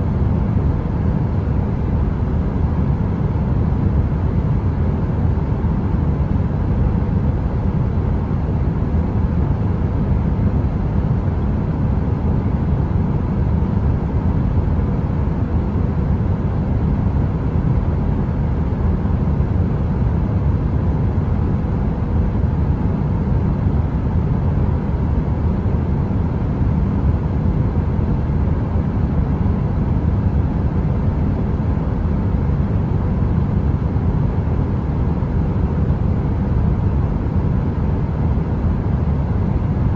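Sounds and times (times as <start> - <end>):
faint constant hum: 0.0 - 39.9.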